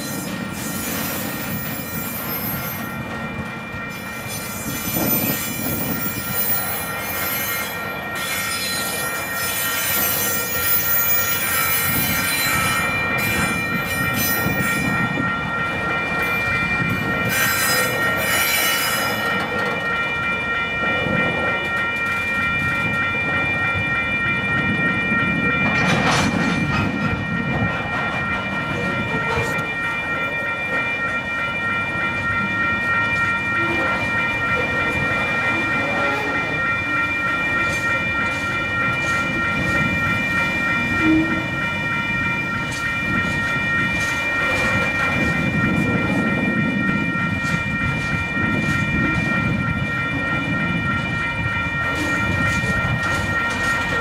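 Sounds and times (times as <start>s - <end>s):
high ringing tone: 0.0s - 54.0s
train wheels rumbling on rails: 0.0s - 54.0s.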